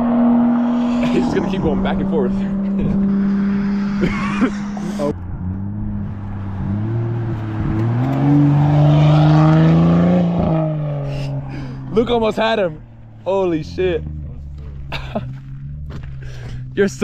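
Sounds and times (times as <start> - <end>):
car exhaust accelerating past: 0.0 - 16.6.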